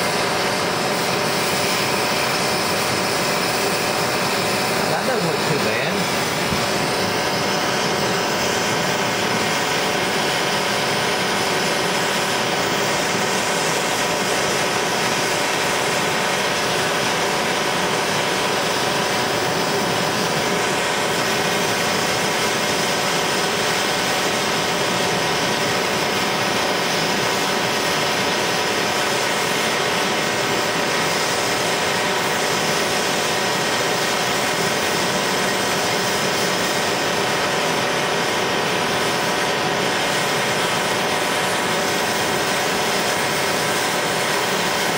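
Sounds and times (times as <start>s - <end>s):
propane torch hissing: 0.0s - 44.9s.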